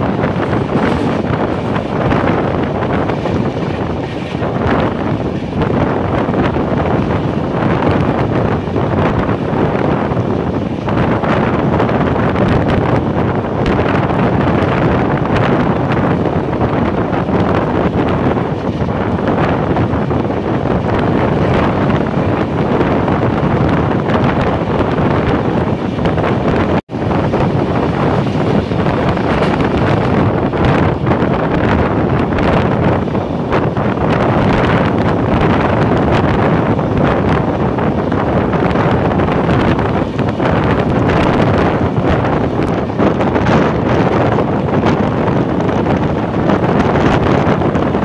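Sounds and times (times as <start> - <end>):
train running on track: 0.0 - 48.0
wind buffeting microphone: 0.0 - 48.0.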